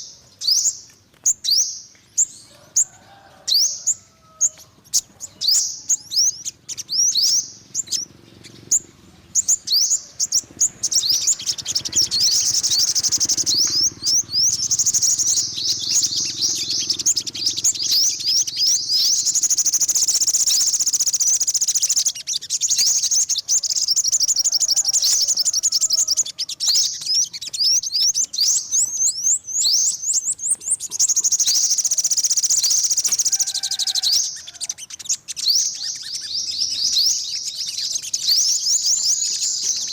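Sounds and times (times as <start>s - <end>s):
sunbird singing high trills: 0.0s - 39.9s.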